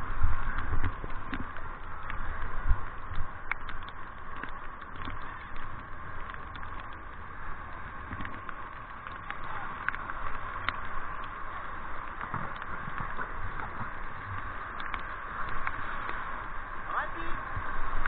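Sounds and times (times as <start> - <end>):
water splashes: 0.0 - 18.0.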